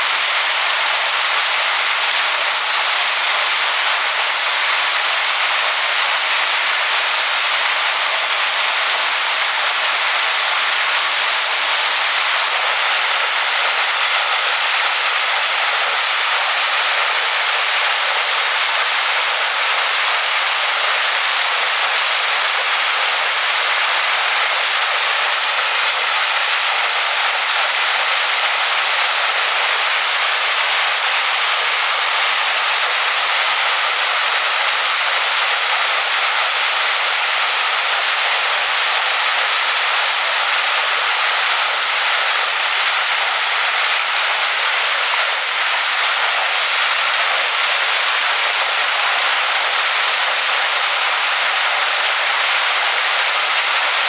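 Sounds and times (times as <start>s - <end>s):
waterfall crashing onto rocks: 0.0s - 54.0s.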